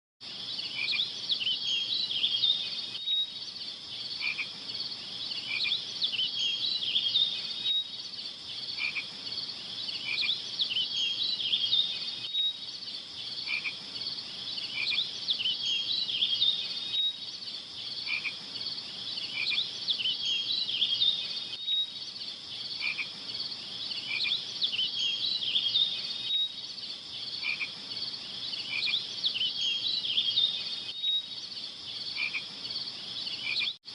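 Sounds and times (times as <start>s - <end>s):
frogs chirping and trilling: 0.2s - 33.9s.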